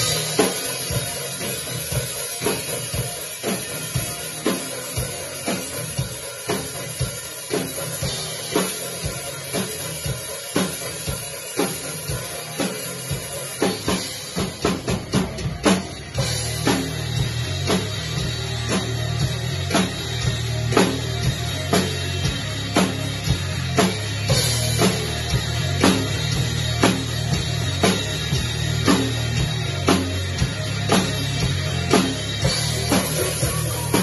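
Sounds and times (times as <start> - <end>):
drum kit playing: 0.0 - 34.0
rock song bass and guitar: 0.0 - 34.0.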